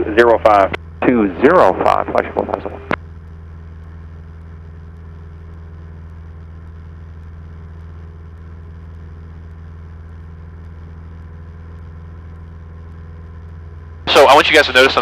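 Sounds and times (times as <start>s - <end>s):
light aircraft engine drone in cabin: 0.0s - 15.0s.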